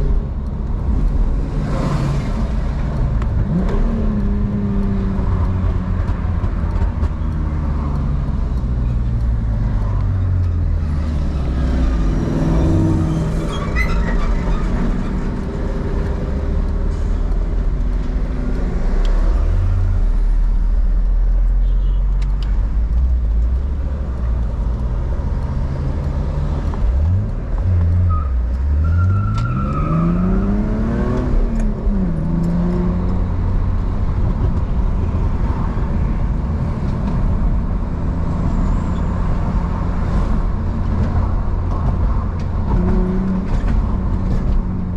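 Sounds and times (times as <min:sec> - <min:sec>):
car engine revving: 0:00.0 - 0:14.0, 0:22.9 - 0:44.9.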